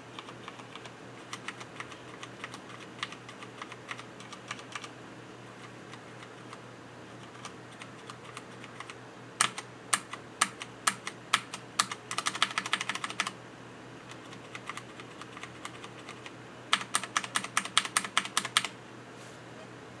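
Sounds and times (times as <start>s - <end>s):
mechanical keyboard typing: 0.1s - 4.9s, 5.6s - 6.6s, 7.2s - 13.4s, 14.1s - 18.8s.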